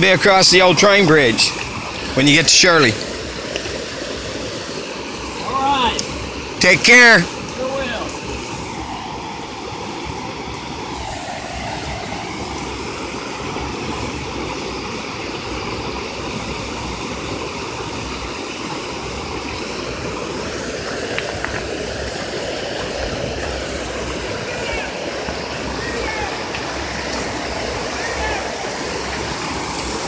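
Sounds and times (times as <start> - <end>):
river water roaring over bridge: 0.0 - 30.0.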